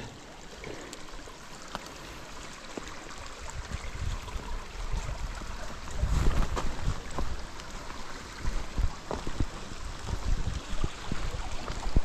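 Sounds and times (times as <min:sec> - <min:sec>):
steady rain in woods: 0:00.0 - 0:12.0.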